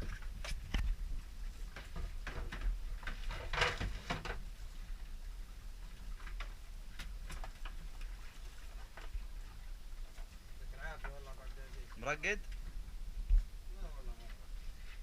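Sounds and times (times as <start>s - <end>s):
low rumble of wind and water: 0.0s - 15.0s.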